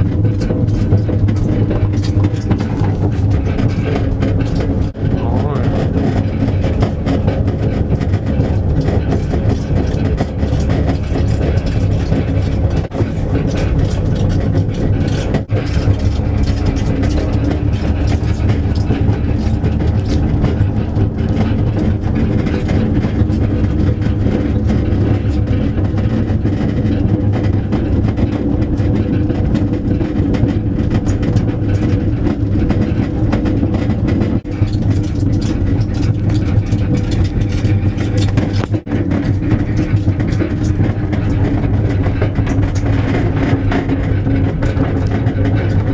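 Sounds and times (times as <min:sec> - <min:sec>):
towed cart rumbling on road: 0:00.0 - 0:45.9.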